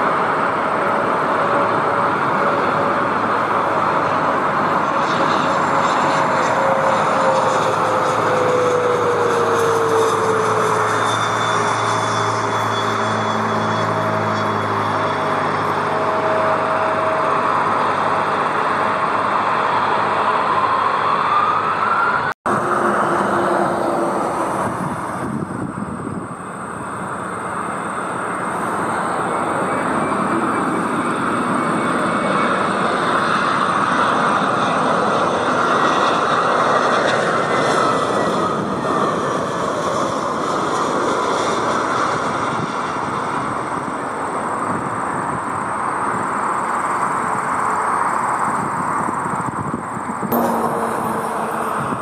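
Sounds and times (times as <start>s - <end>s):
faint gliding whine: 0.0s - 52.0s
jet engines roaring: 0.0s - 52.0s.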